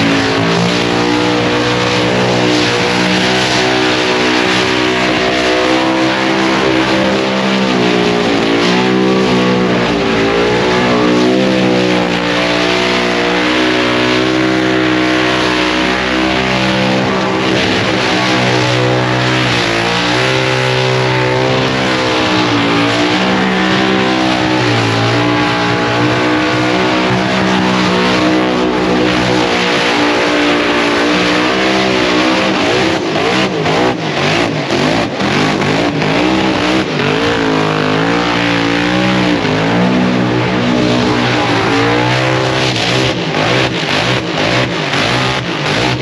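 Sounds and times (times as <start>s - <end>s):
car engine revving hard: 0.0s - 46.0s.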